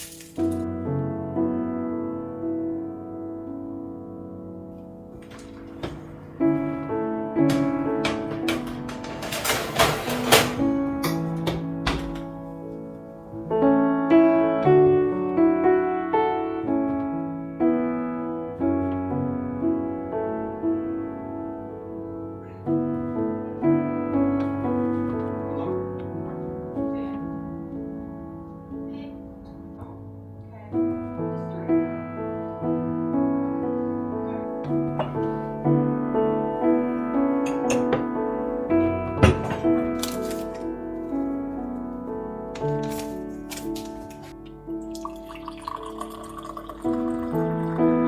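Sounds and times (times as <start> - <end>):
gentle piano music: 0.0 - 48.0.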